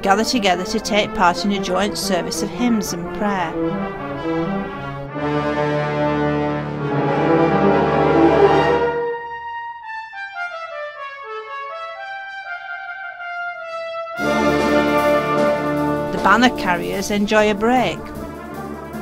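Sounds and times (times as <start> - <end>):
brass band playing: 0.2 - 19.0
solo brass melody: 0.2 - 19.0.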